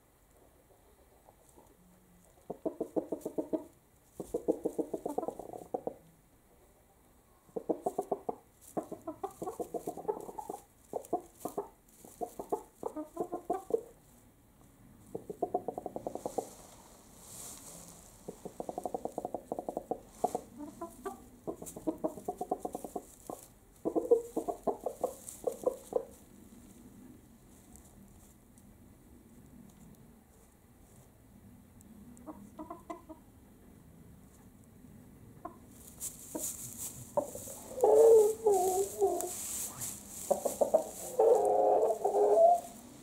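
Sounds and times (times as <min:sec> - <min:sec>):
chickens clucking: 0:00.3 - 0:14.2, 0:15.0 - 0:27.0, 0:32.2 - 0:33.5, 0:35.3 - 0:43.0.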